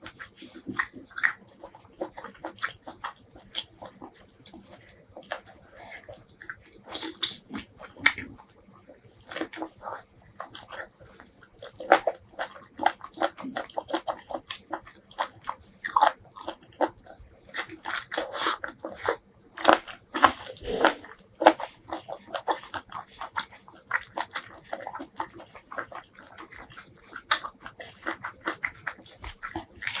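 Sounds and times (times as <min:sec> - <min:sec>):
wet chewing and smacking: 0:00.0 - 0:30.0.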